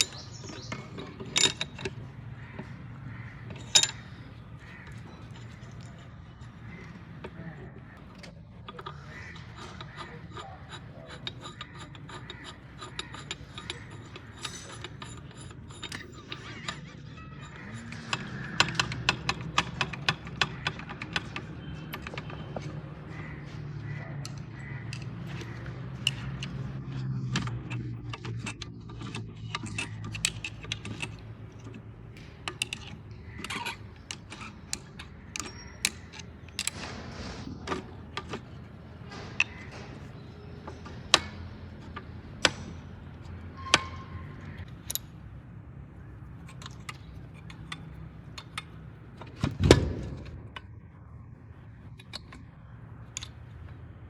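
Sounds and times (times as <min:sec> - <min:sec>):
metal tools clicking and tapping: 0:00.0 - 0:54.0.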